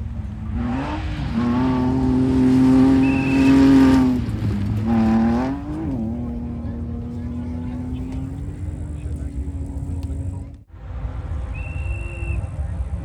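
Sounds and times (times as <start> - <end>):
rally car engine at high revs: 0.0 - 12.2.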